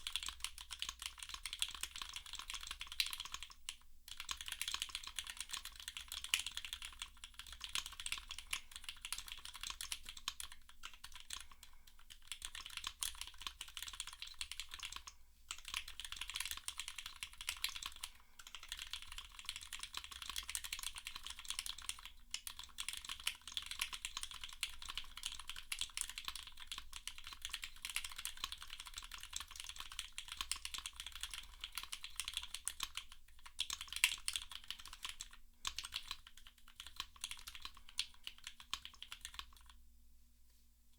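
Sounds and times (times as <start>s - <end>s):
fast mechanical keyboard typing: 0.0s - 39.8s.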